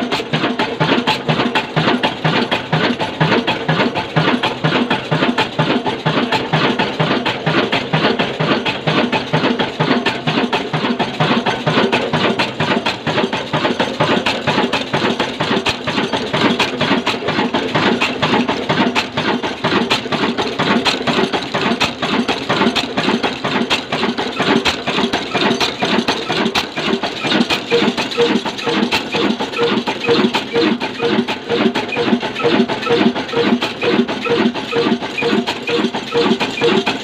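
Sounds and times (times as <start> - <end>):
diesel engine knocking: 0.0 - 37.0.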